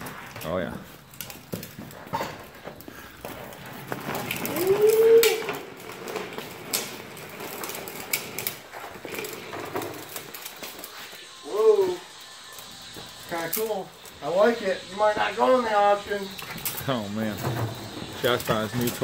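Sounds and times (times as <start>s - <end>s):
trike rattling on concrete: 0.0s - 19.0s.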